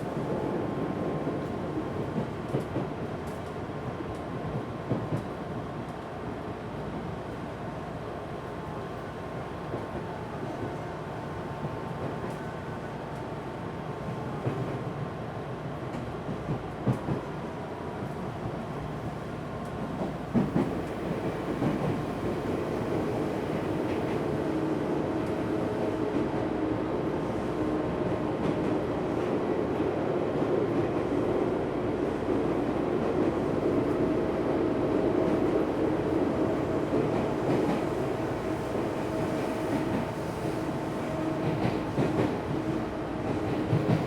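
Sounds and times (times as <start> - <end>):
electric train interior running: 0.0 - 44.0.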